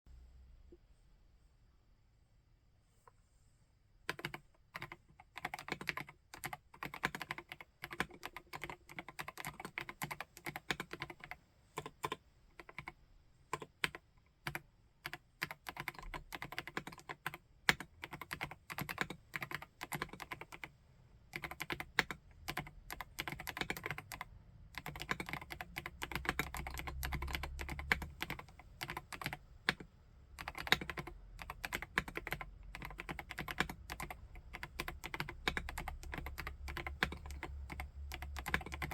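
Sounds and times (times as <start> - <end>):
mechanical keyboard typing: 4.1 - 20.7, 21.3 - 38.9.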